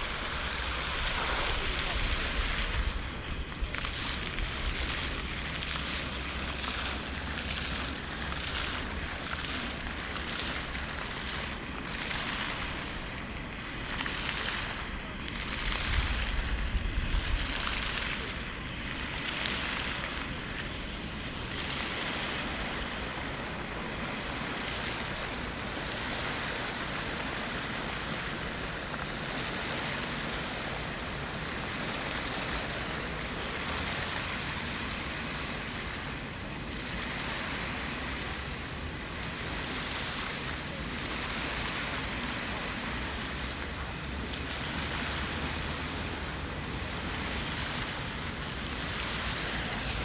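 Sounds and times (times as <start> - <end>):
fountain water splashing: 0.0 - 50.0.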